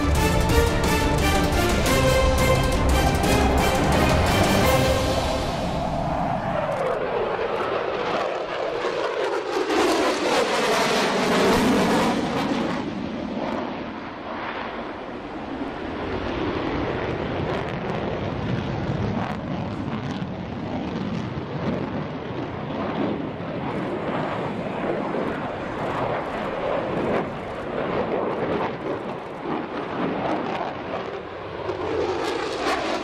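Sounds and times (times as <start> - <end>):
jet engines rushing overhead: 0.0 - 33.0.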